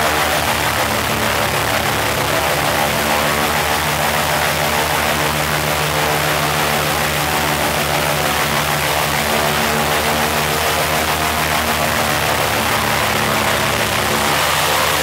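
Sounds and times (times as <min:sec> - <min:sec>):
radial aircraft engine running: 0:00.0 - 0:15.0.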